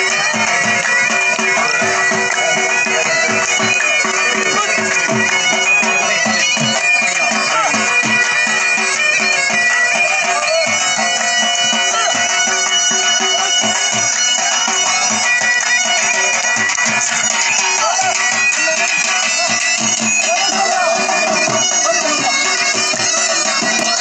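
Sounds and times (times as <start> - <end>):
reedy wind instrument melody: 0.0 - 24.0.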